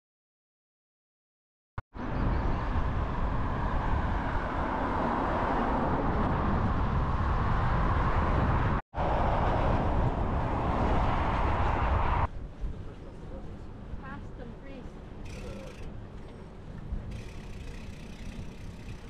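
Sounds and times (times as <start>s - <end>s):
road traffic noise: 2.0s - 19.0s
wind rumbling on microphone: 2.0s - 19.0s.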